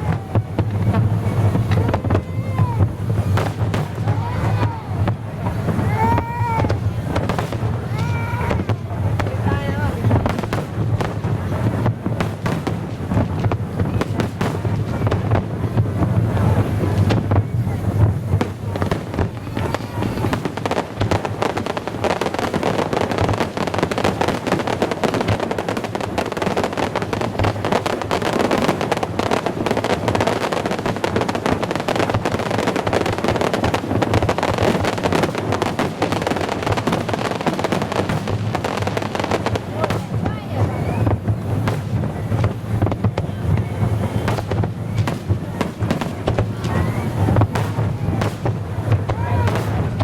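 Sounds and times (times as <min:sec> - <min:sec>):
fireworks crackling: 0:00.0 - 0:50.0.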